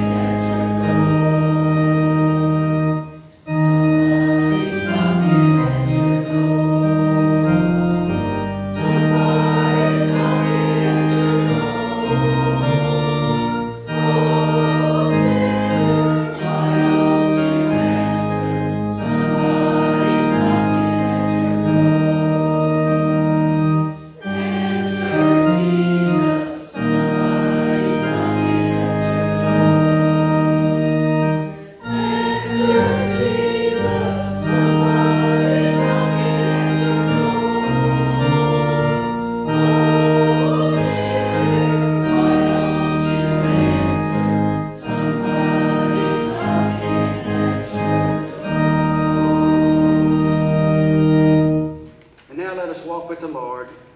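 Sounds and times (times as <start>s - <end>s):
organ playing chords: 0.0s - 53.9s.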